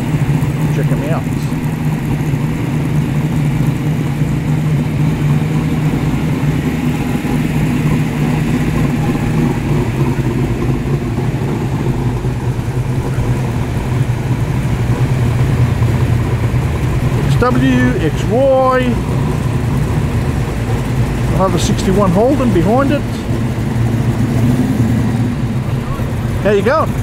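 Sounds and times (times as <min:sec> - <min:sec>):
car engines idling: 0:00.0 - 0:27.0.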